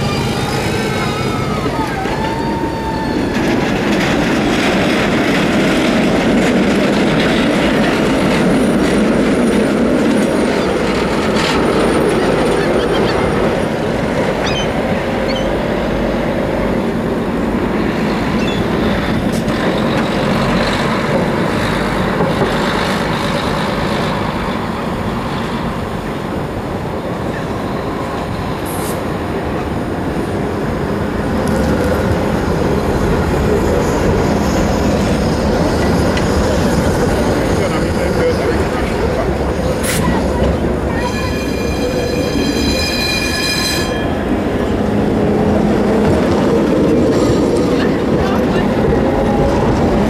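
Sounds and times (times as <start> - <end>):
buses running: 0.0 - 50.0
tram running over rails: 0.0 - 50.0.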